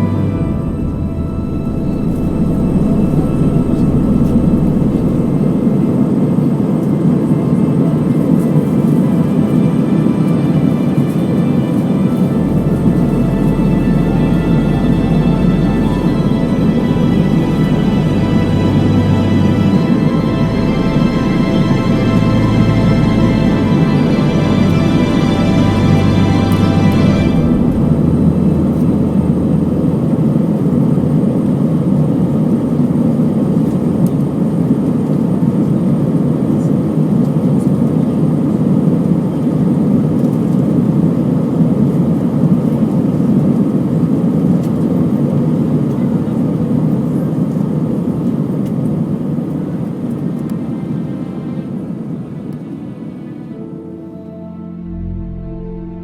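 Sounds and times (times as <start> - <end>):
jet engine roar in cabin: 0.0 - 53.7.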